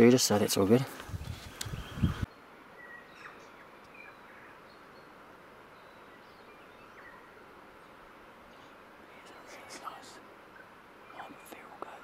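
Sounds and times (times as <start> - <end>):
steady low hiss: 0.0 - 12.0
bird chirps: 1.2 - 11.8.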